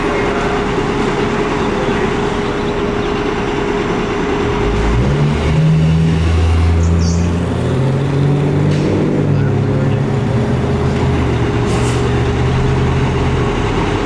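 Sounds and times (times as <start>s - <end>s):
deep low drone: 0.0s - 14.0s
fire engine vehicle noise: 0.0s - 14.0s.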